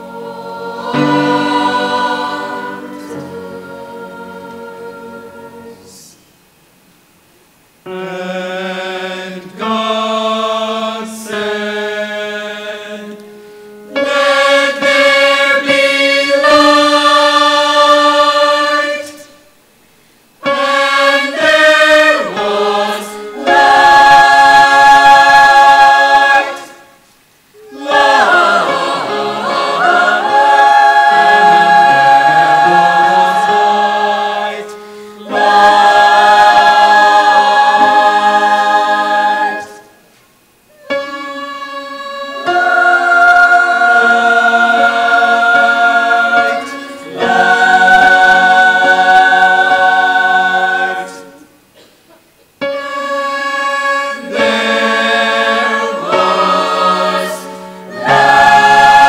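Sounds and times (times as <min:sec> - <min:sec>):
choir singing held chords: 0:00.0 - 0:59.0.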